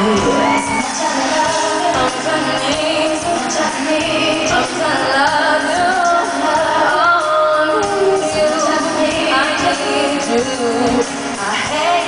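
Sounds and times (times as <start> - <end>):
woman singing into a microphone: 0.0 - 12.0.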